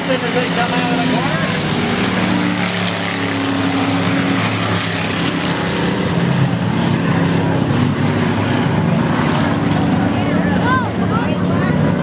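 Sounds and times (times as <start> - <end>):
stock car engines racing: 0.0 - 12.0.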